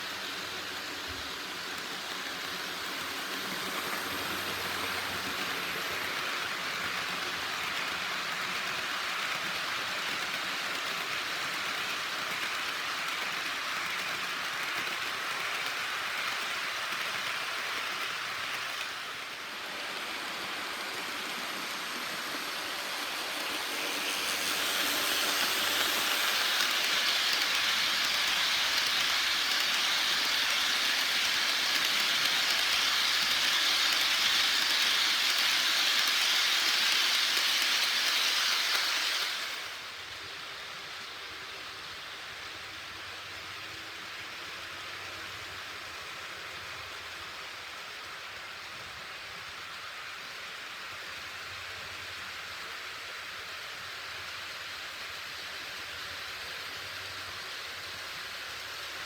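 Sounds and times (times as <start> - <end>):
model train running on track: 0.0 - 59.0.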